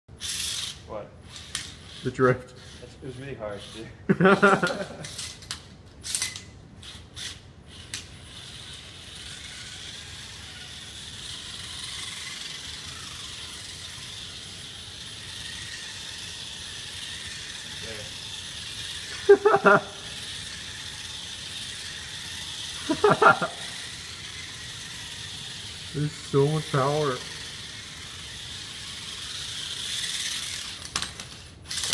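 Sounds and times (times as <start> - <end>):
robot drive motors whining: 0.2 - 4.0, 4.6 - 31.9.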